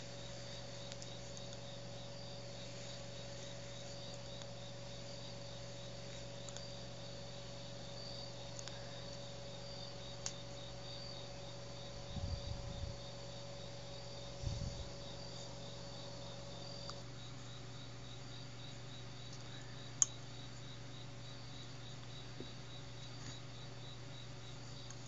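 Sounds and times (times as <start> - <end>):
crickets chirping: 0.0 - 25.0
low electrical hum: 0.0 - 25.0.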